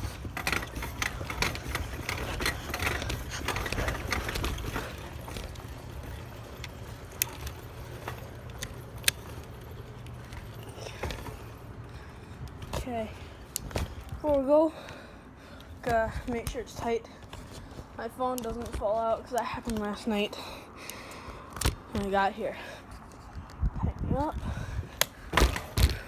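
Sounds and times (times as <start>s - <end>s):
bicycle rattling and clicking: 0.0s - 26.0s.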